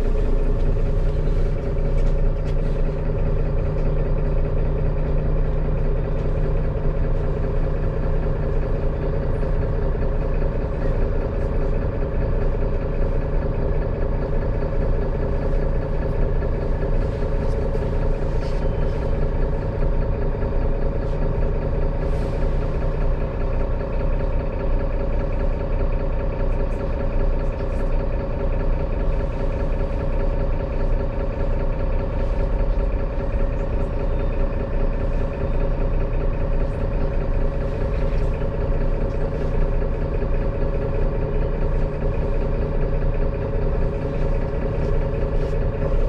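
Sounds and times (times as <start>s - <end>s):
bus engine idling: 0.0s - 46.0s.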